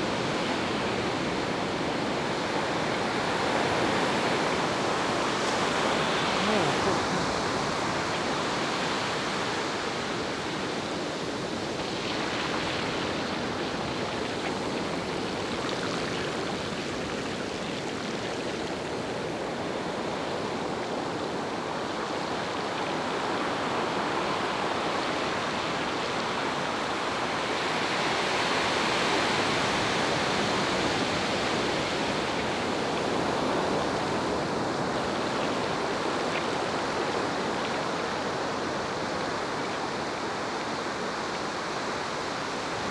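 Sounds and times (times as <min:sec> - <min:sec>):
water rushing under bicycle: 0:04.2 - 0:42.9.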